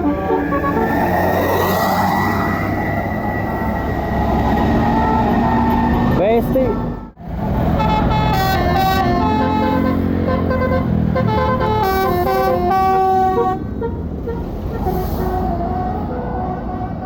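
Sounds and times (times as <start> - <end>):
bus multi-tone horn melody: 0.0 - 17.0
engine and traffic noise: 0.0 - 17.0.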